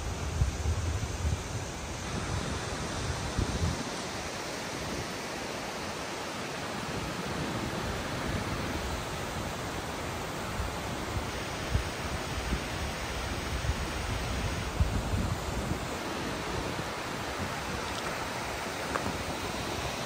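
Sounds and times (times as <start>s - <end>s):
wind buffeting microphone: 0.0s - 5.2s, 6.9s - 20.0s
waterfall and stream rushing: 0.0s - 20.0s.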